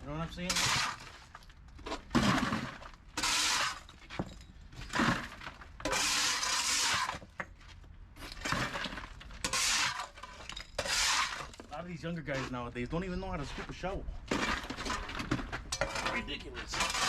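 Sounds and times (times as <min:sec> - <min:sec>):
shoveling brick debris: 0:00.3 - 0:07.4, 0:08.2 - 0:12.6, 0:14.2 - 0:17.0.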